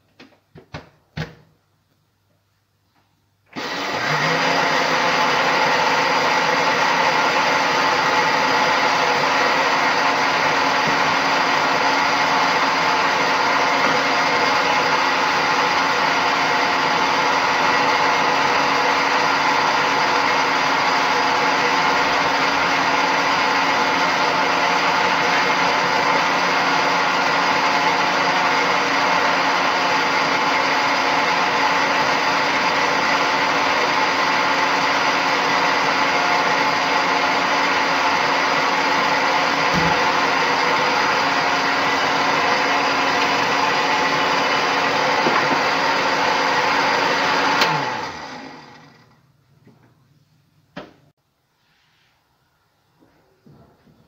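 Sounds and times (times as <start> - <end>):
blender motor whirring: 3.5 - 49.2.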